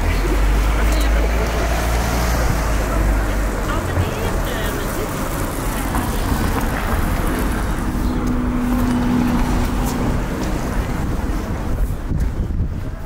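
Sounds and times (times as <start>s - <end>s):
motor vehicle passing: 0.0s - 12.8s
low traffic rumble: 0.0s - 13.0s.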